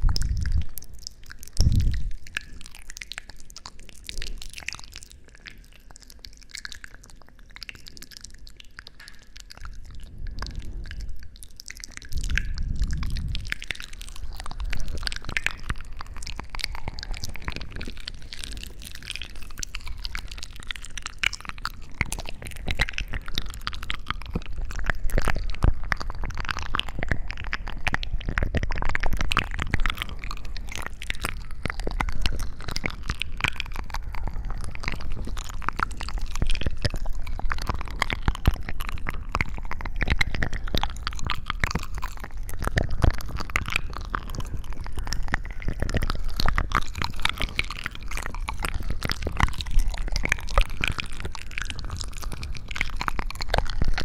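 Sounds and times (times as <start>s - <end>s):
small wet crackles and squishes: 0.0s - 54.0s.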